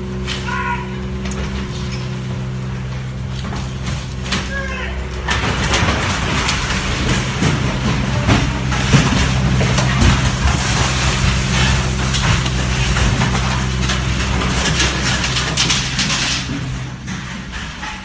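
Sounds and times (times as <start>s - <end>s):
building material crunching: 0.0s - 18.0s
excavator diesel engine running: 0.0s - 18.0s.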